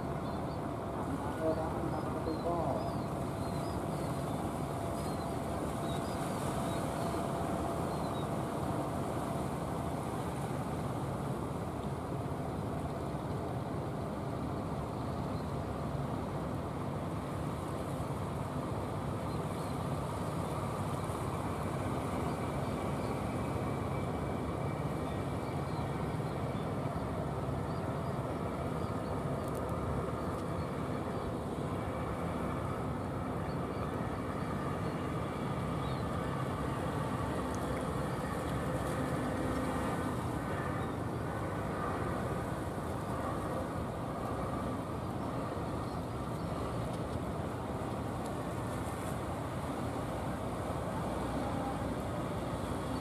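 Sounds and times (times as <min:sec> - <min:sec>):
boat engine droning: 0:00.0 - 0:53.0.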